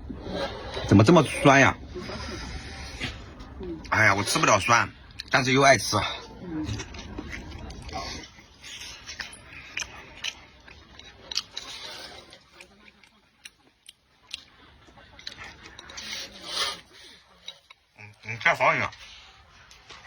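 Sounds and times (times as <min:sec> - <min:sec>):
chewing and mouth noises: 0:00.0 - 0:20.0.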